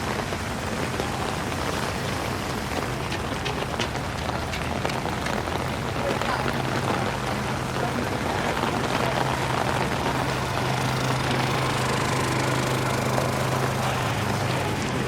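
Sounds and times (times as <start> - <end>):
rain hissing: 0.0 - 15.0
vehicle engine idling: 0.0 - 15.0
wet street noise: 0.0 - 15.0.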